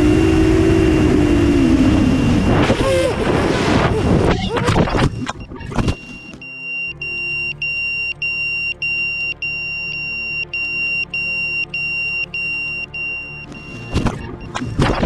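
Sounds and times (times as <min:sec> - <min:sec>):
high-pitched alarm beeps: 0:01.1 - 0:03.1, 0:04.7 - 0:15.0.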